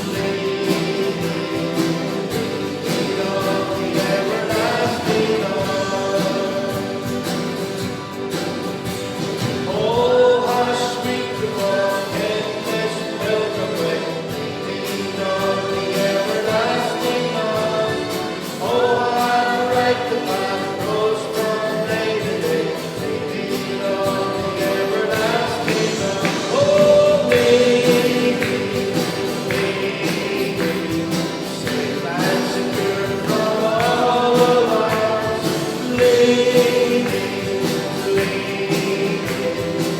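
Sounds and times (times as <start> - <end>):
choir singing a hymn: 0.0 - 39.9
instrumental accompaniment: 0.0 - 39.9.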